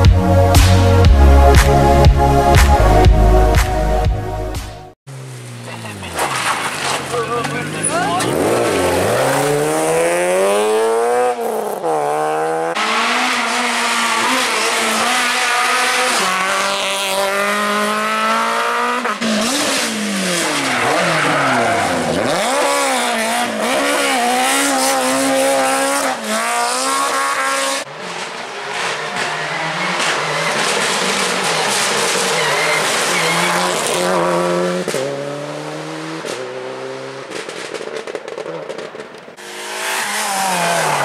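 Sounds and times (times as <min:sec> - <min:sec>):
rally car engines revving: 0:05.1 - 0:41.0.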